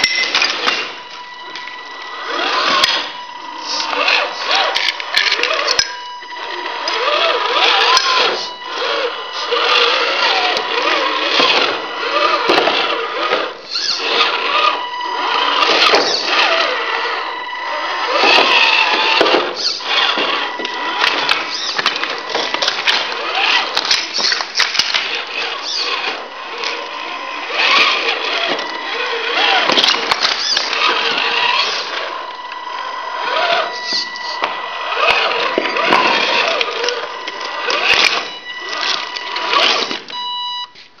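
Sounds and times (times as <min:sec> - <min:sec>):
electric motor whine: 0:00.0 - 0:40.8.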